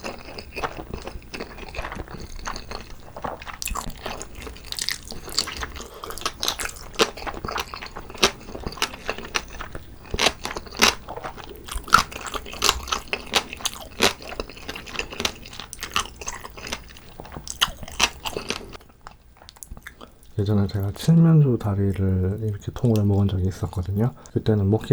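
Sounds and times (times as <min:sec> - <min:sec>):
biting and chewing crunches: 0:00.0 - 0:24.9.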